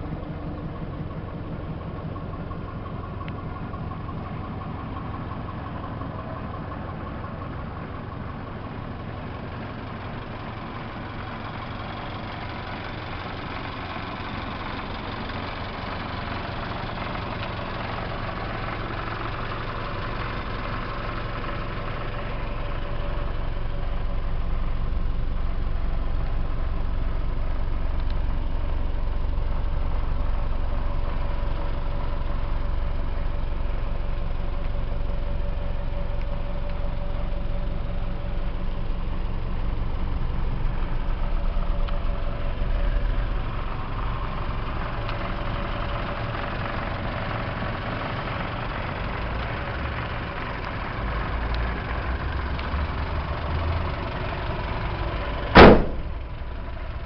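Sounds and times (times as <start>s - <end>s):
fire truck engine idling: 0.0s - 57.0s.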